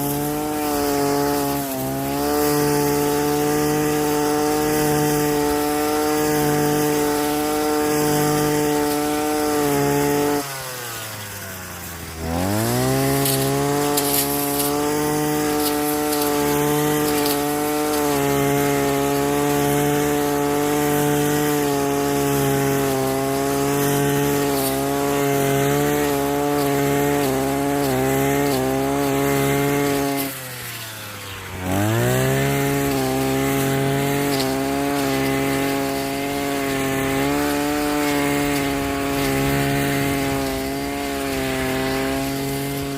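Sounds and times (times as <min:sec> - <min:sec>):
two-stroke power tool engine revving: 0:00.0 - 0:42.9.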